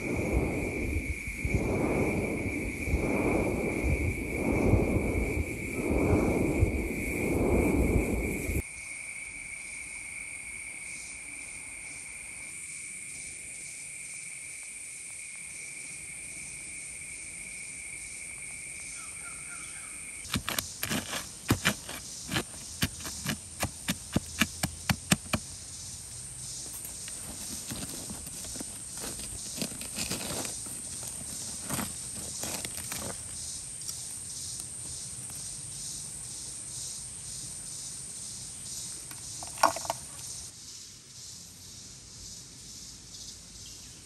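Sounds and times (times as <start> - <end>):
insect drone: 0.0 - 44.0.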